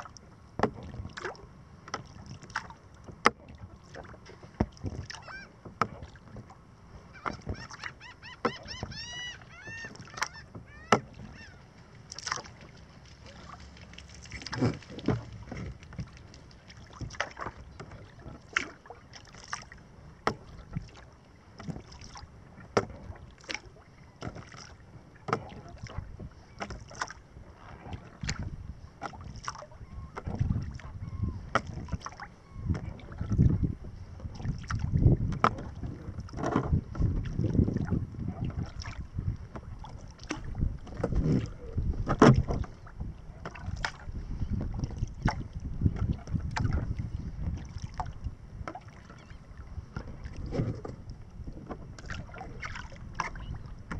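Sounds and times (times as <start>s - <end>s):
wind rumble on microphone: 0.0s - 7.8s, 8.4s - 18.6s, 25.0s - 53.9s
paddle splashing in water: 0.0s - 53.9s
water running along hull: 0.0s - 53.9s.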